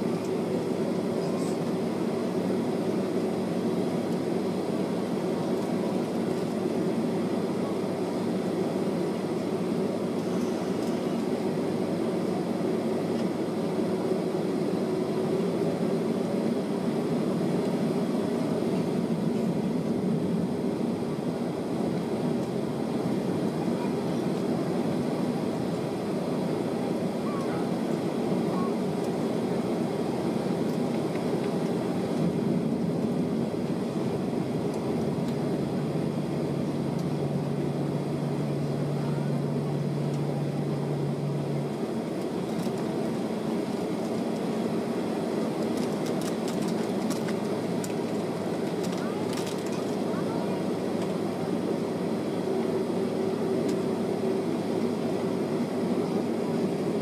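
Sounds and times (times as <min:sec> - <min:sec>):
jet engine cabin hum: 0:00.0 - 0:57.0.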